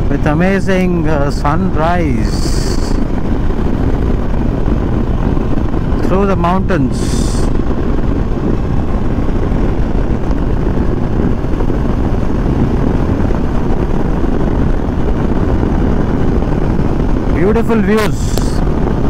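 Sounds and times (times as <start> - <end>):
motorcycle engine drone: 0.0 - 19.0
wind rush over microphone: 0.0 - 19.0.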